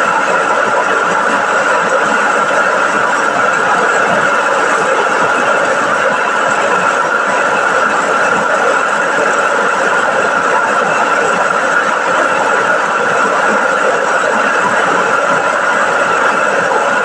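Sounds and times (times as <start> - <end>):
rice milling machine running: 0.0 - 17.0.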